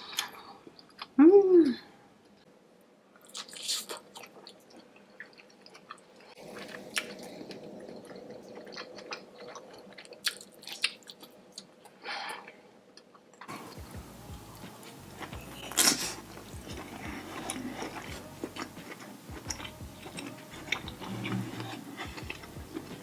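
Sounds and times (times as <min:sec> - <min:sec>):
wet chewing of seafood: 0:03.2 - 0:12.0, 0:13.0 - 0:23.0.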